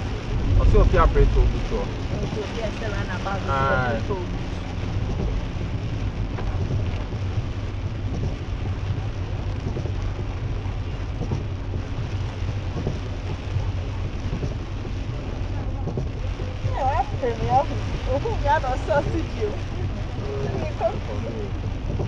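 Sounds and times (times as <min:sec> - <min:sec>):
car hum and tyres on wet road: 0:00.0 - 0:22.0
heavy rain drumming on car roof: 0:00.0 - 0:22.0.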